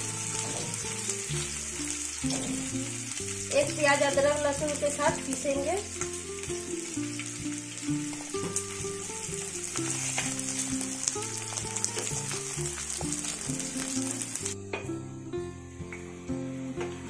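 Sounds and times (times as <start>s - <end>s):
background music with plucked notes: 0.0s - 17.0s
onions sizzling in hot oil: 0.0s - 17.0s.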